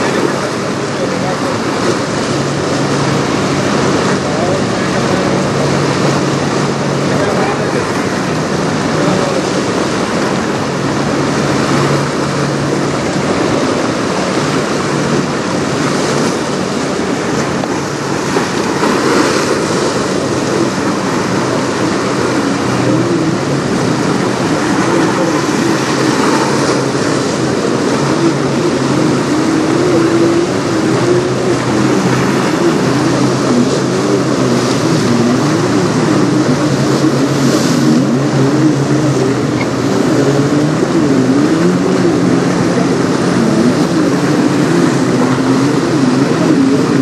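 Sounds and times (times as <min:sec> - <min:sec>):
jet ski engine whine: 0:00.0 - 0:47.0
river water flowing: 0:00.0 - 0:47.0.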